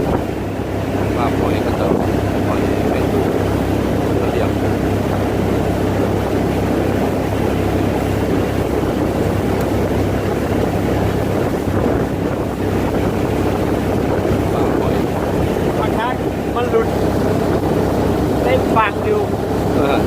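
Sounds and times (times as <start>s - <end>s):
motorboat engine hum: 0.0s - 20.0s
wind buffeting microphone: 0.0s - 20.0s.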